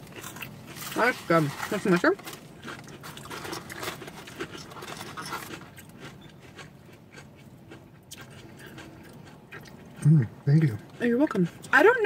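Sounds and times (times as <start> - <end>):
chewing crunchy food: 0.0 - 11.7.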